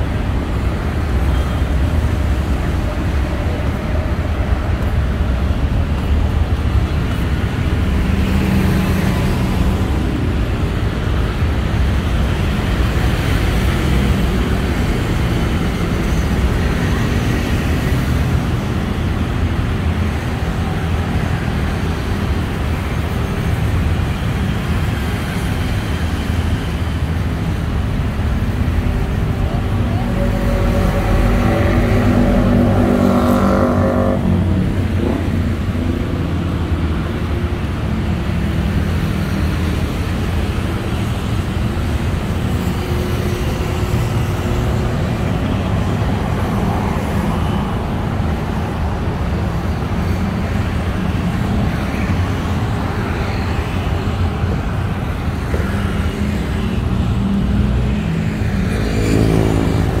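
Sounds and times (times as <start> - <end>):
heavy traffic rumble: 0.0 - 60.0.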